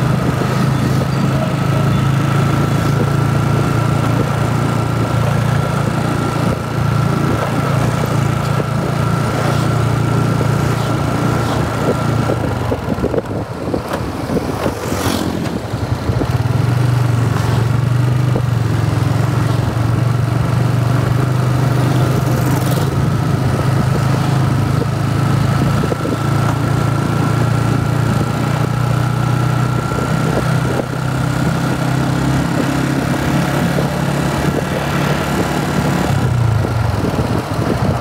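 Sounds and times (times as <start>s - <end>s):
motorcycle engine cruising: 0.0s - 38.0s.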